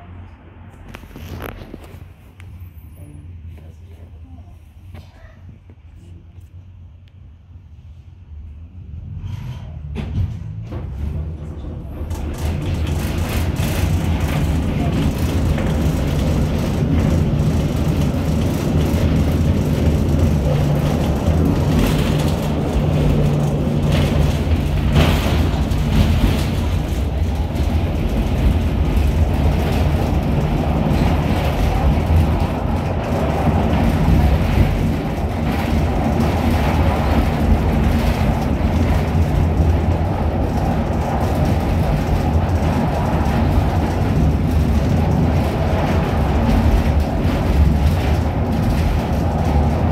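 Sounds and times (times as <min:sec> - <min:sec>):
tram wheels rumbling on rails: 0:00.0 - 0:49.9.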